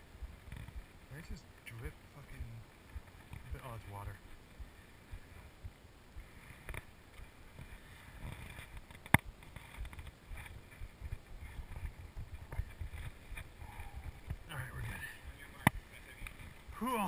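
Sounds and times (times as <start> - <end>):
rustling against camera: 2.4 - 16.7.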